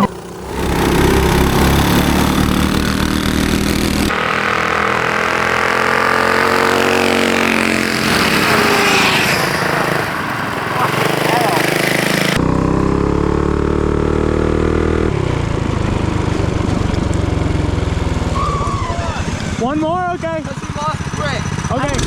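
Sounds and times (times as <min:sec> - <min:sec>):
mini bike engines accelerating: 0:00.0 - 0:22.0.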